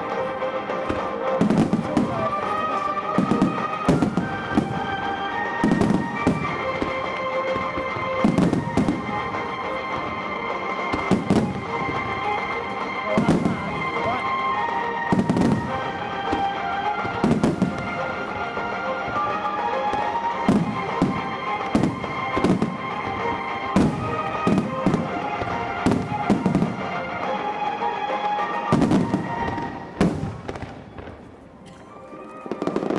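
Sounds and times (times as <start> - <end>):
fireworks booming: 0.0 - 32.9
music playing: 0.0 - 32.9.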